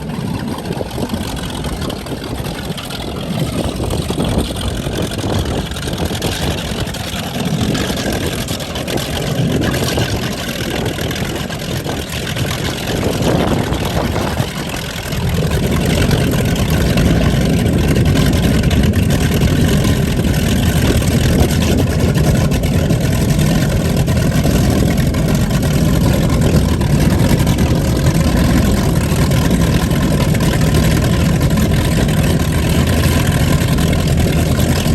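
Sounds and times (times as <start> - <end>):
powerboat engines rumbling: 0.0 - 34.9.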